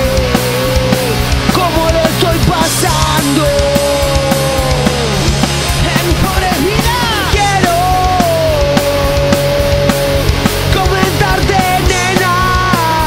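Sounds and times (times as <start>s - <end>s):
loud rock song: 0.0s - 13.0s
sliding melodic lead line: 0.0s - 13.0s
steady drum beat: 0.0s - 13.0s.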